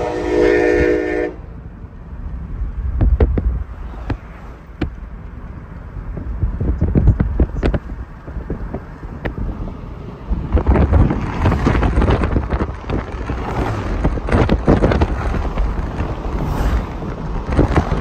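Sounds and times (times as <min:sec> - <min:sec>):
tyre and road noise: 0:00.0 - 0:18.0
wind buffeting microphone: 0:00.0 - 0:18.0.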